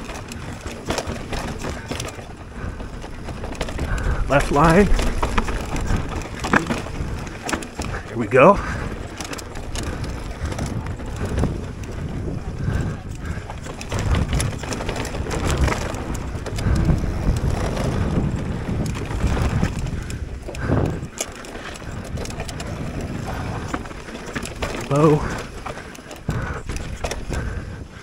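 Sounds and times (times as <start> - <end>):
bike rattling and knocking: 0.0 - 28.0
tyres rumbling over dirt: 0.0 - 28.0
wind buffeting microphone: 0.0 - 28.0.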